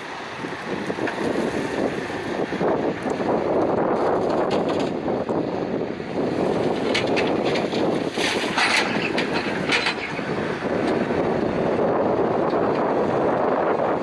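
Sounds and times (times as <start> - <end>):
diesel engine running: 0.0 - 14.0
wind rumbling on microphone: 0.0 - 14.0.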